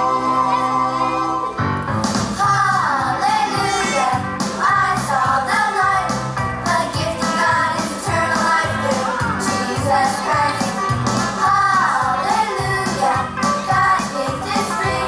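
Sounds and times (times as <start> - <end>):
upbeat gospel song: 2.0 - 15.0.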